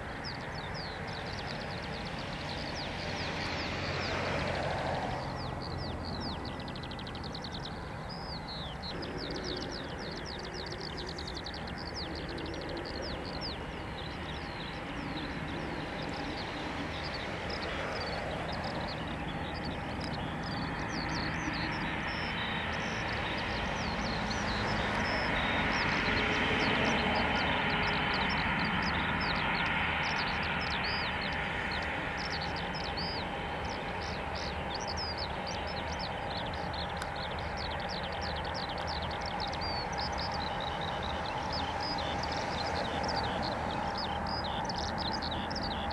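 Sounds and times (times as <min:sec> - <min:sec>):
airliner engines whining: 0:00.0 - 0:45.9.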